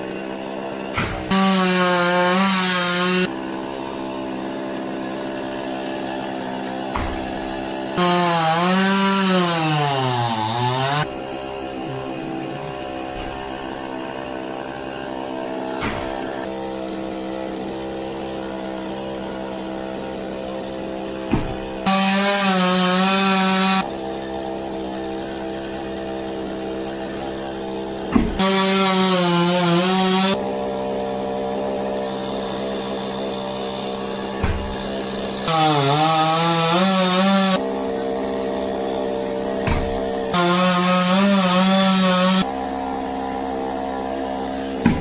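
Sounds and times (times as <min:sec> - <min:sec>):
chainsaw cutting wood: 0:00.0 - 0:45.0
chainsaw idling: 0:00.0 - 0:45.0.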